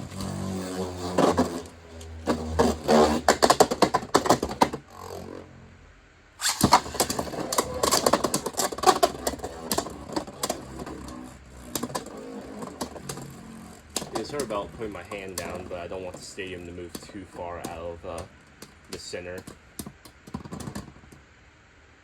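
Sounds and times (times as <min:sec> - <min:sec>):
spinning tops whirring: 0:00.0 - 0:05.7, 0:06.4 - 0:19.0.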